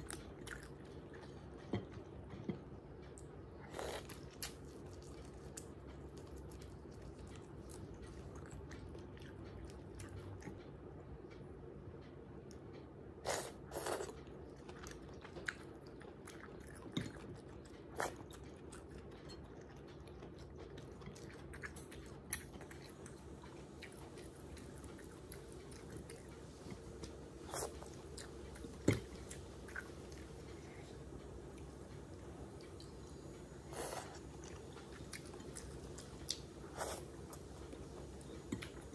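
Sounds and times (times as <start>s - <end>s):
chewing and wet smacks: 0.0s - 11.8s, 12.4s - 38.9s
steady low hum: 0.0s - 38.9s.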